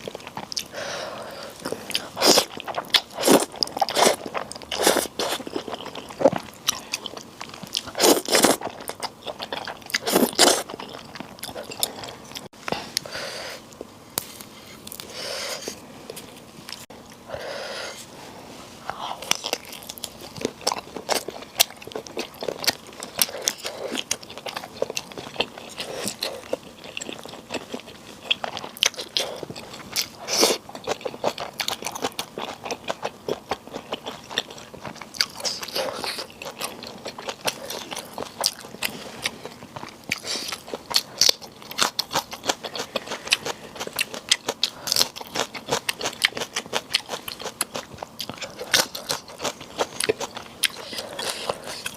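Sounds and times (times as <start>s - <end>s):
close-miked chewing: 0.0s - 13.1s, 18.9s - 51.9s.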